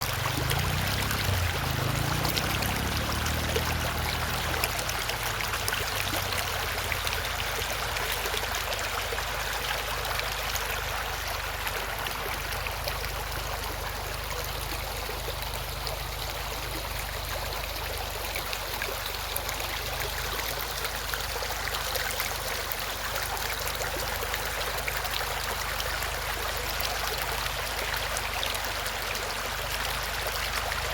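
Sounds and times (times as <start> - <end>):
running water flowing: 0.0 - 30.9.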